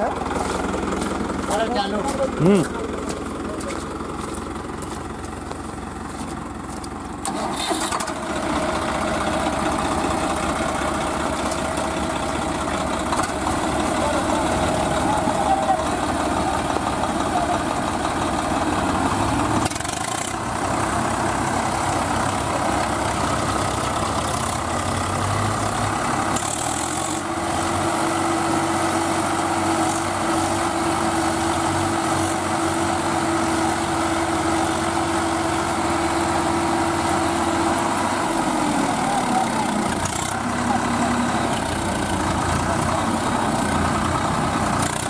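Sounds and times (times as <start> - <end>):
diesel tractor engines under load: 0.0 - 45.0.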